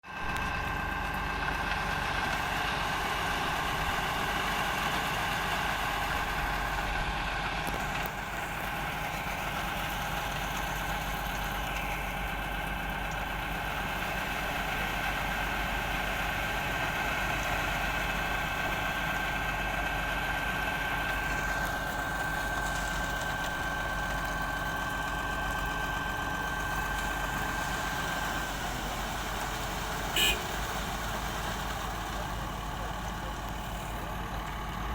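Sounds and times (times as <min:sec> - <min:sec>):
construction machinery engine running: 0:00.0 - 0:34.9.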